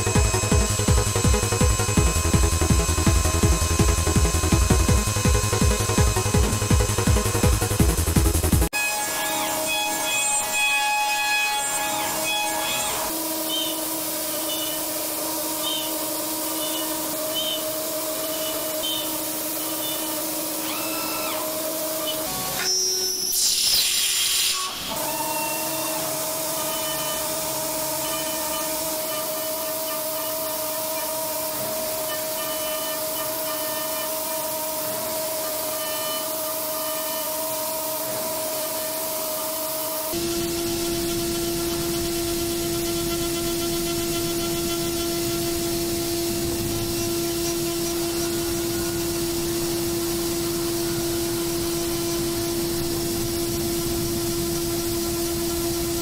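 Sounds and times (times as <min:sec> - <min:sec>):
harsh bright cutting noise: 0:00.0 - 0:56.0
milling machine cutting metal whine: 0:00.0 - 0:56.0.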